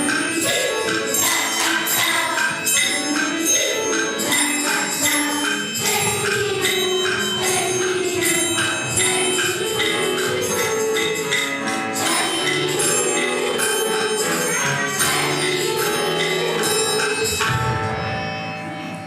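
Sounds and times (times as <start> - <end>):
music with bell-like chimes: 0.0 - 19.0.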